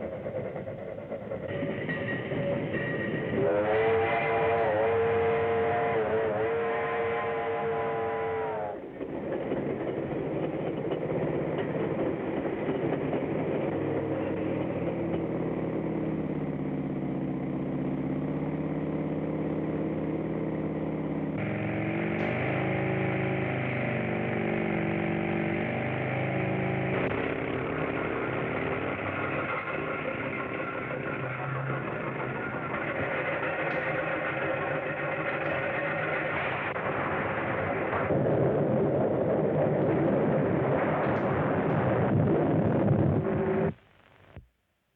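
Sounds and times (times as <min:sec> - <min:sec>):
train rumbling on track: 0:00.0 - 0:43.8.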